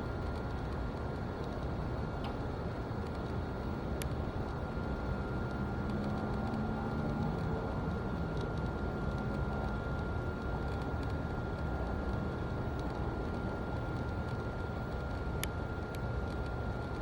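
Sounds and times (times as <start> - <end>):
faint engine hum: 0.0 - 17.0.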